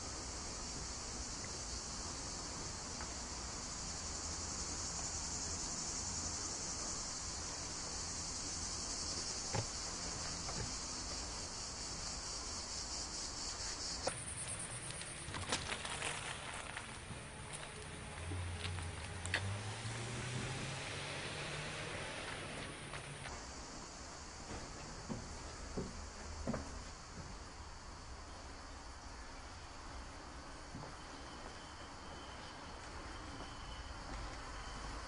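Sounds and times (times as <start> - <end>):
insect chorus buzzing: 0.0 - 35.0.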